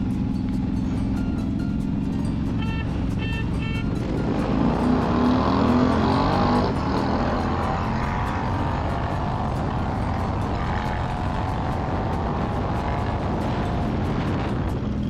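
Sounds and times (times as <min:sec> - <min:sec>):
motorcycles accelerating hard: 0:00.0 - 0:15.0.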